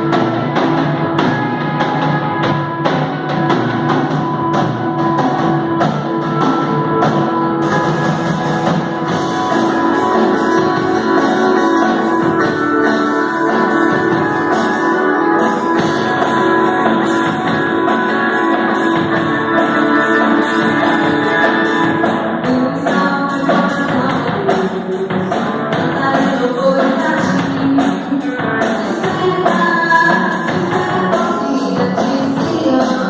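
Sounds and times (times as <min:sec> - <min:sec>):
guitar-led worship band: 0:00.0 - 0:33.0.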